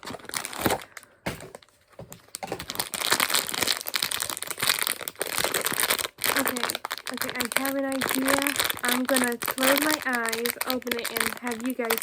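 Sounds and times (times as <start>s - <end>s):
packaging crinkling and rustling: 0.0s - 12.0s
packaging ripping: 0.0s - 12.0s.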